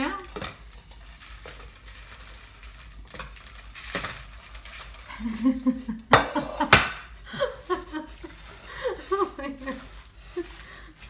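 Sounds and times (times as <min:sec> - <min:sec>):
sticky cereal rustling and crackling: 0:00.0 - 0:11.0.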